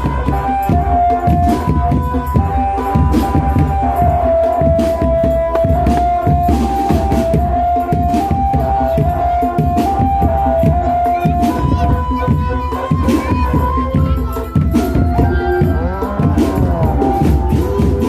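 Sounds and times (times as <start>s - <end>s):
drums beating steady rhythm: 0.0s - 18.0s.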